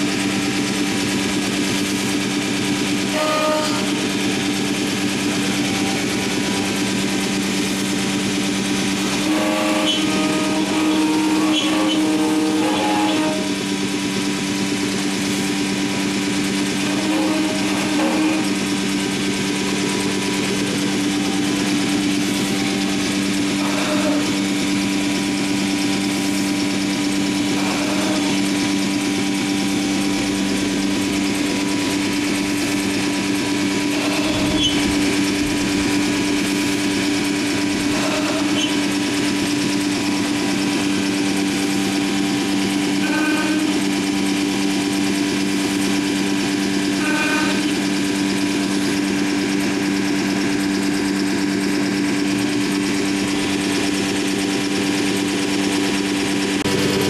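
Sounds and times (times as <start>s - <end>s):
cnc router humming: 0.0s - 57.0s.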